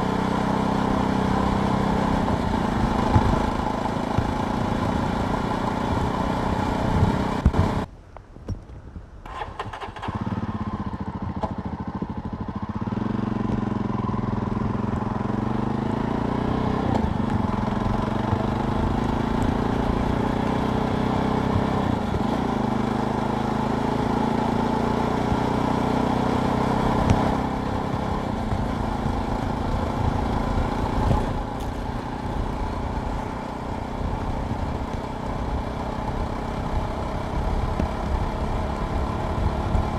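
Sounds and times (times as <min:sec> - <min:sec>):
motorcycle engine revving: 0:00.0 - 0:07.9, 0:09.3 - 0:39.9.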